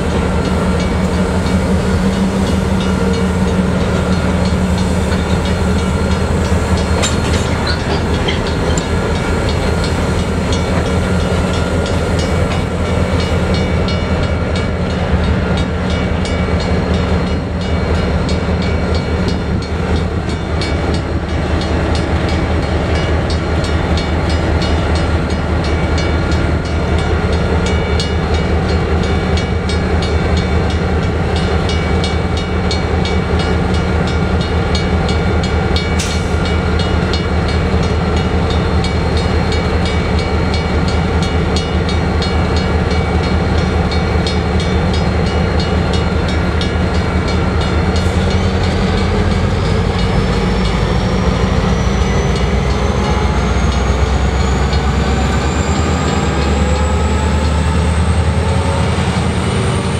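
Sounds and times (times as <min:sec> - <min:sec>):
locomotive engine humming: 0:00.0 - 0:59.9.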